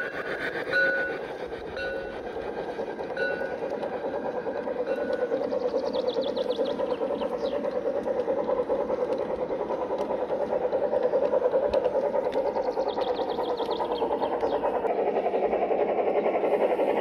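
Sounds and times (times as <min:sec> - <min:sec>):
model train motor humming: 0:00.0 - 0:17.0.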